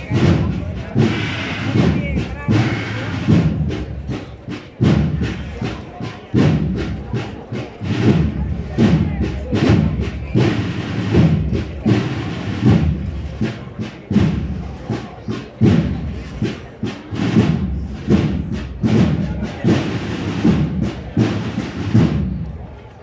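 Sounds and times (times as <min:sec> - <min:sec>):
drums beating march rhythm: 0:00.0 - 0:22.9
large band playing: 0:00.0 - 0:22.9.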